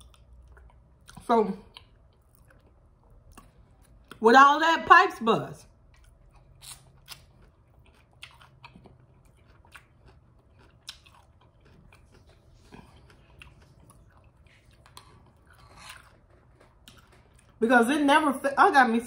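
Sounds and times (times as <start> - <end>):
chewing soft food: 0.0 - 4.2, 5.7 - 17.6.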